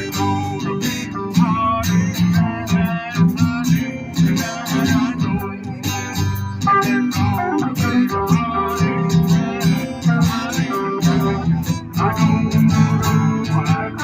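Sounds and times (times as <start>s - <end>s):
bass: 0.0s - 14.0s
strummed acoustic guitars: 0.0s - 14.0s.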